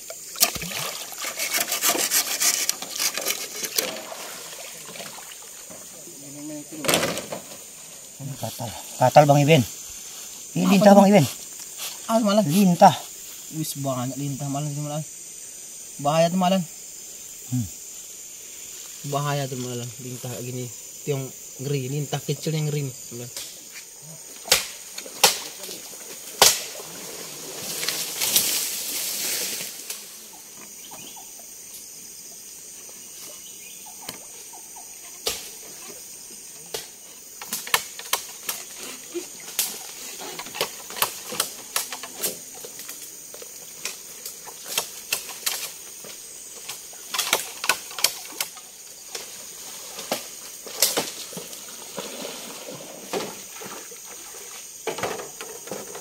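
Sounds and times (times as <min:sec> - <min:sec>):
chorus of night insects: 0:00.0 - 0:56.0
rustling hiss: 0:00.0 - 0:56.0.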